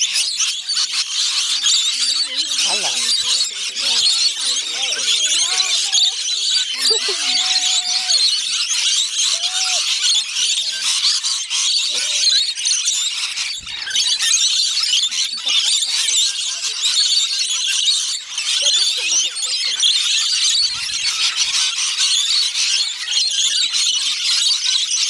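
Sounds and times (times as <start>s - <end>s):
flock of parrots screeching: 0.0s - 25.0s.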